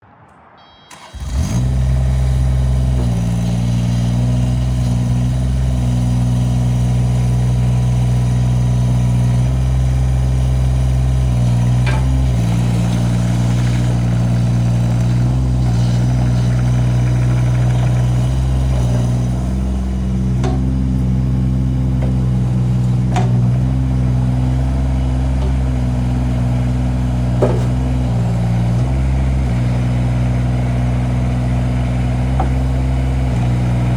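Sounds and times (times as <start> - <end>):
diesel engine running: 0.9 - 33.9.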